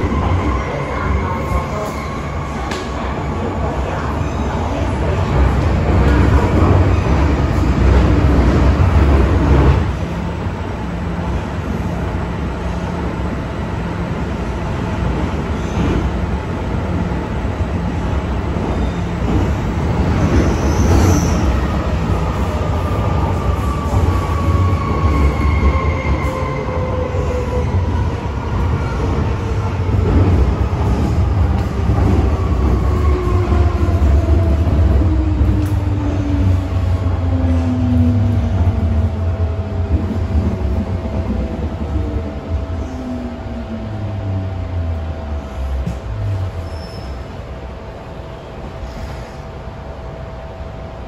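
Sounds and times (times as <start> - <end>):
wheels rumbling on rail: 0.0 - 51.0.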